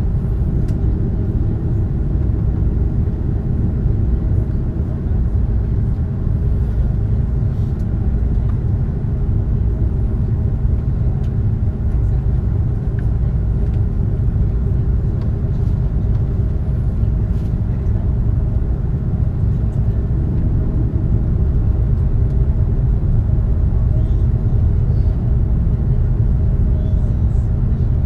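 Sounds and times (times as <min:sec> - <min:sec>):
faint constant hum: 0:00.0 - 0:28.0
jet engines rumbling: 0:00.0 - 0:28.0.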